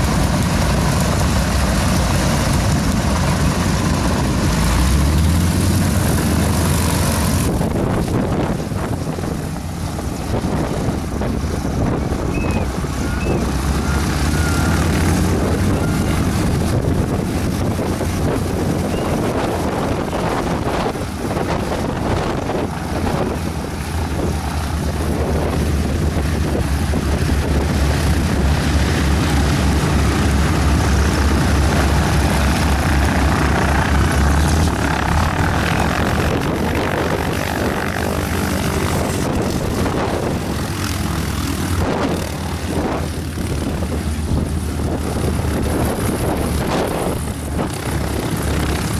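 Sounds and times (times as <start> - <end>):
radial aircraft engines rumbling: 0.0 - 48.9.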